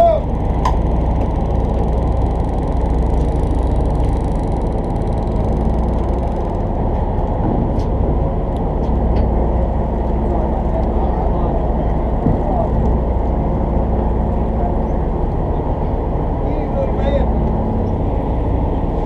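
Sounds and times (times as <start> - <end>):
boat engine droning: 0.0 - 19.0
water noise: 0.0 - 19.0
wind: 0.0 - 19.0.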